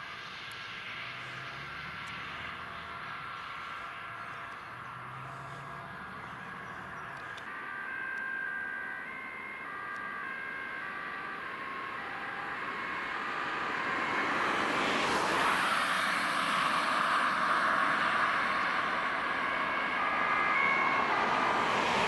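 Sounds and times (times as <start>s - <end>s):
distant two-tone sirens: 0.0s - 22.0s
road traffic noise: 0.0s - 22.0s.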